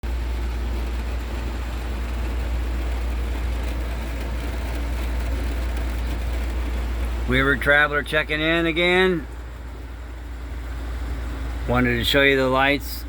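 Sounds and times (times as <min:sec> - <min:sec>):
air conditioner hum: 0:00.0 - 0:13.0.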